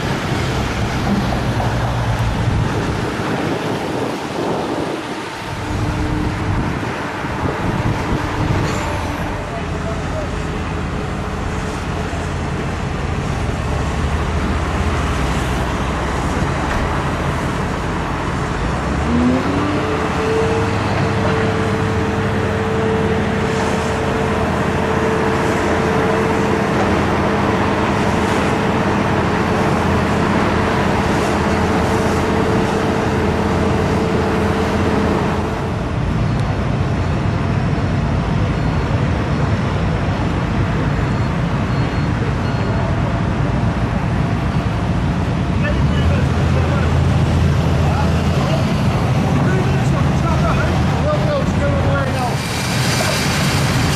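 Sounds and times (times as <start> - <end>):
heavy engine revving: 0.0 - 38.4, 43.2 - 53.9
steady rumbling noise: 0.0 - 53.9.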